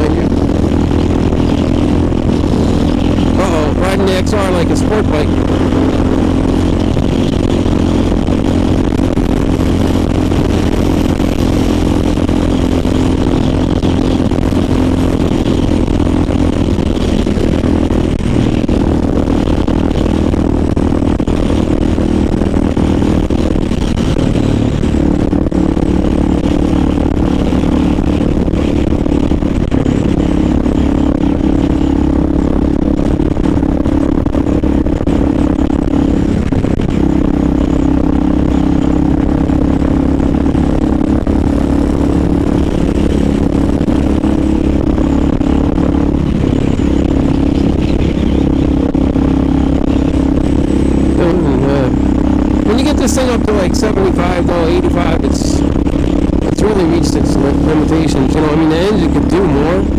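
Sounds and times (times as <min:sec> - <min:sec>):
motorcycle engine at speed: 0:00.0 - 0:59.9
rushing noise: 0:00.0 - 0:59.9.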